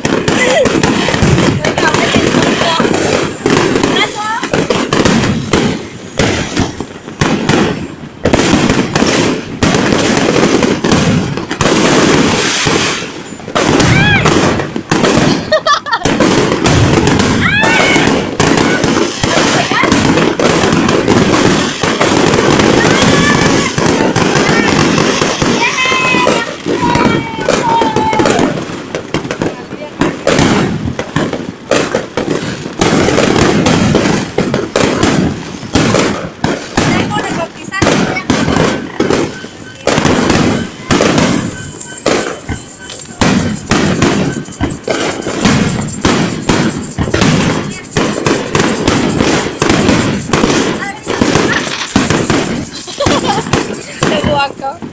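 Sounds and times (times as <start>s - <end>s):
fireworks bangs and booms: 0.0s - 54.9s
fireworks crackling: 0.0s - 54.9s.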